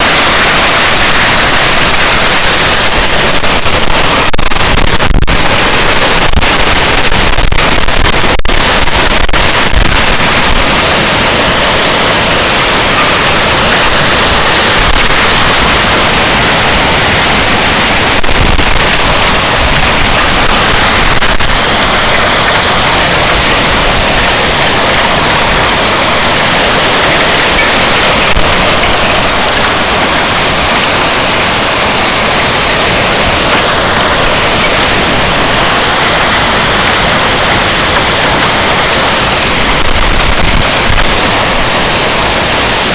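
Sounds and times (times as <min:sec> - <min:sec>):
heavy rain: 0:00.0 - 0:42.9
storm wind: 0:00.0 - 0:42.9.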